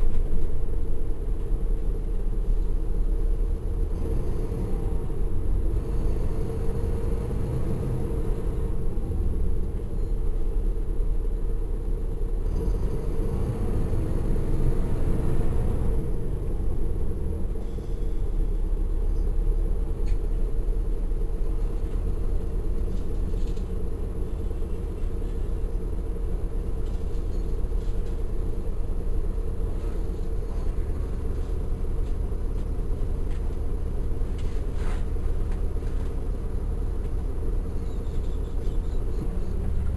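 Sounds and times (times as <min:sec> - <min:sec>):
bus diesel engine rumble: 0:00.0 - 0:39.9.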